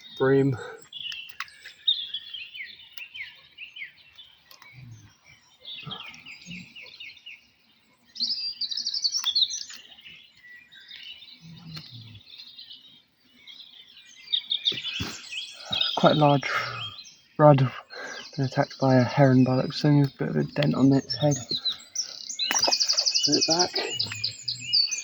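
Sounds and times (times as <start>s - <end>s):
small songbirds singing: 0.0s - 25.0s.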